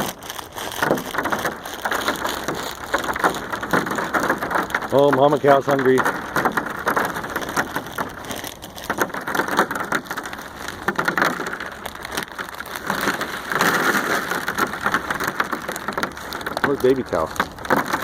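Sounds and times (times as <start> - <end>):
cow crunching popcorn: 0.0 - 18.0.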